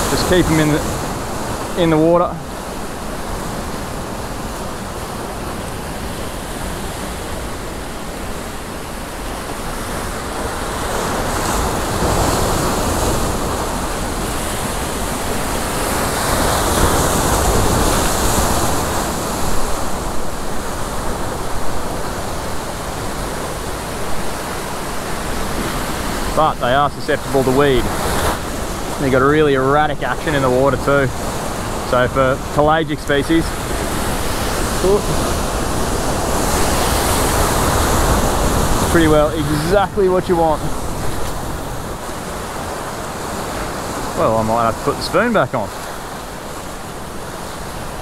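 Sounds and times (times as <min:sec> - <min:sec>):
surf breaking against rocks: 0:00.0 - 0:48.0.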